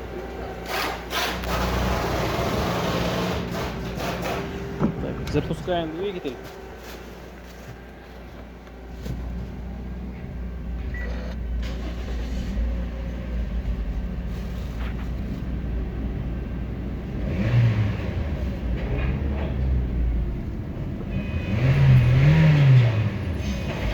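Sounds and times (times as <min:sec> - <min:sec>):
car engine starting and idling: 0:00.0 - 0:23.9.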